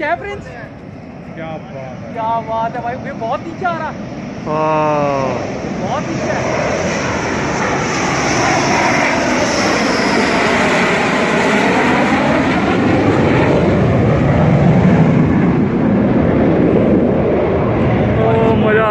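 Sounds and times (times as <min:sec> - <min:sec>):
fighter jet roaring overhead: 0:00.0 - 0:18.9.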